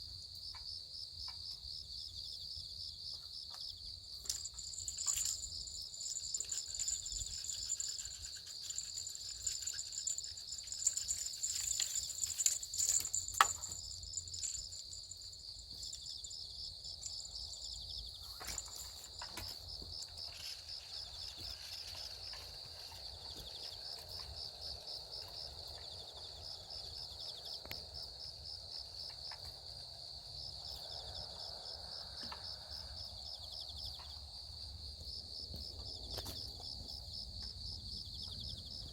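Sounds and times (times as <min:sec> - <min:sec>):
crickets trilling: 0:00.0 - 0:38.9
high insect chorus: 0:00.0 - 0:38.9.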